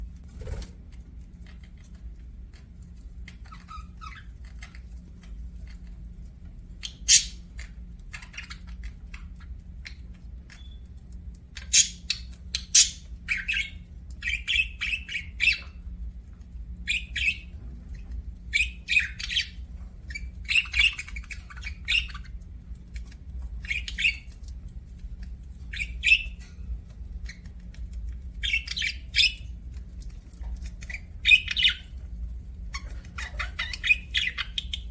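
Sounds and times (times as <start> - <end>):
steady low hum: 0.0 - 34.9
budgies chirping: 1.5 - 6.0, 6.7 - 15.9, 16.8 - 34.9.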